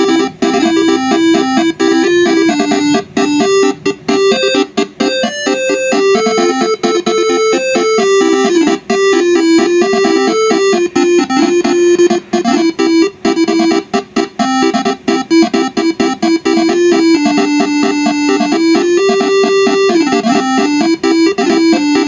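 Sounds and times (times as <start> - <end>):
musical bus horn melody: 0.0 - 22.0.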